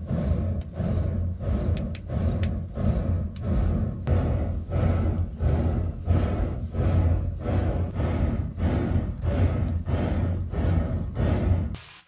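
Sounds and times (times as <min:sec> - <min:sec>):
burning fuel crackling: 0:00.0 - 0:12.0
furnace roaring under bellows: 0:00.0 - 0:12.0.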